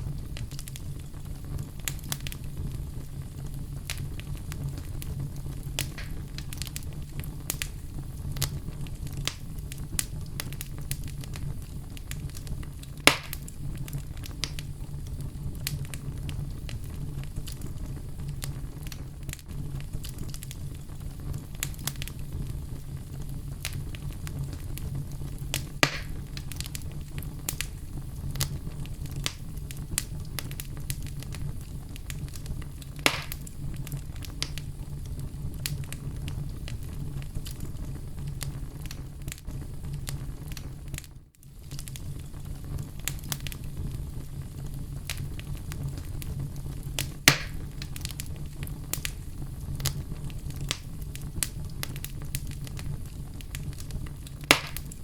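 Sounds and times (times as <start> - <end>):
fire crackling in fireplace: 0.0 - 55.0
low rumble of flames: 0.0 - 55.0.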